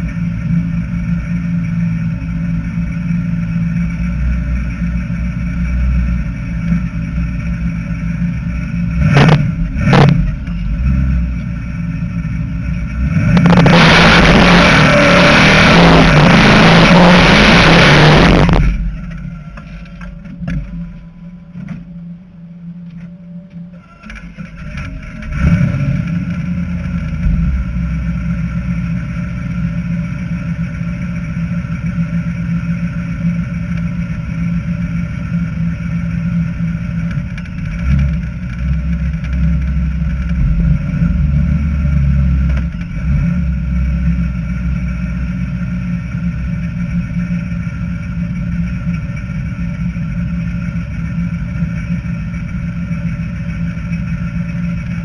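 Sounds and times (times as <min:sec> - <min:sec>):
car engine starting and rumbling: 0:00.0 - 0:55.0.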